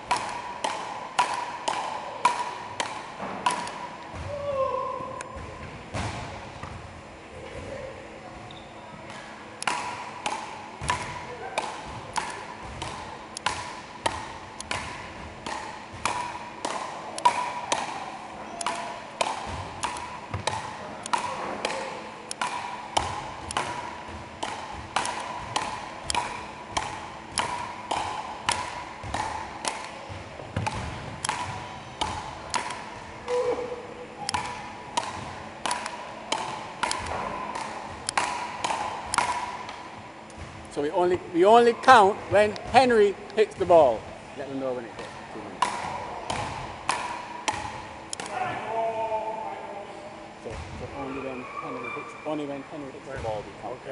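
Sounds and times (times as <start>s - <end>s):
paddles hitting ball: 0.0s - 6.9s, 9.0s - 48.8s, 50.4s - 51.0s.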